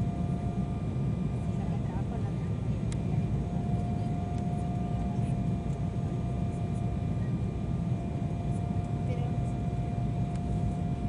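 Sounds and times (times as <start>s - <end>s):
airliner cabin rumble: 0.0s - 11.0s
thin steady whine: 0.0s - 11.0s.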